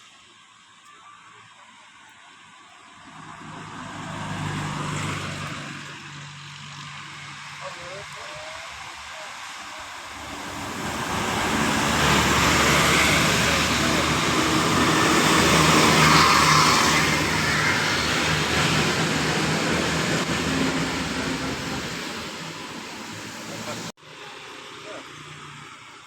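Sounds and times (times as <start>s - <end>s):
bus driving past: 2.4s - 26.0s.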